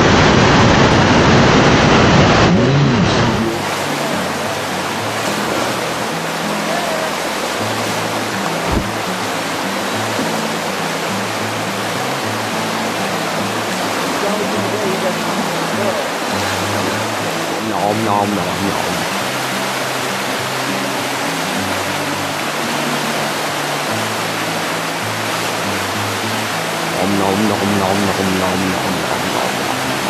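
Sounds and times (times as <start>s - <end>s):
rushing whitewater roar: 0.0s - 30.0s
background music: 3.6s - 30.0s.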